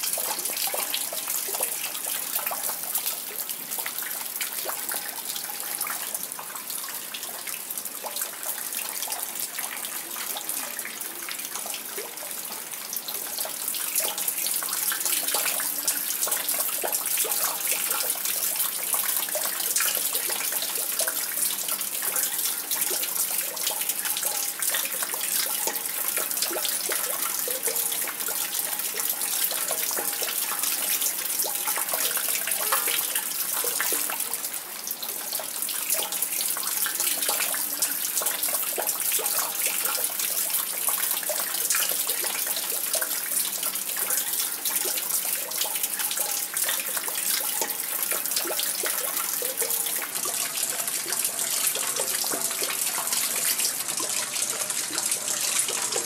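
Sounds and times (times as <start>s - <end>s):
water dripping into a well: 0.0s - 56.0s.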